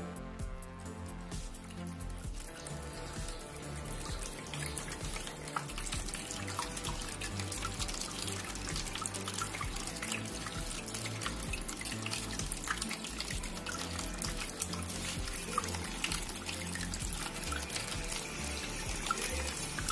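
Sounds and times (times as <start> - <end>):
background music: 0.0 - 19.9
fountain water trickling and splashing: 1.0 - 19.9.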